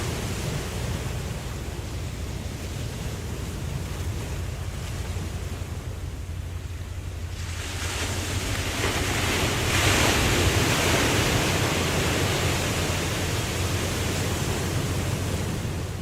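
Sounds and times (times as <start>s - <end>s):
ocean wave breaking: 0.0s - 16.0s
steady low rumble: 0.0s - 16.0s.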